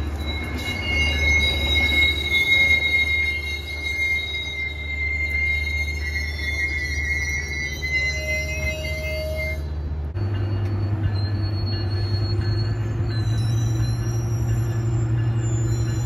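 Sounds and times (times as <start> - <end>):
wheel squeal: 0.0 - 9.9, 10.5 - 16.0
diesel train drone: 0.0 - 16.0.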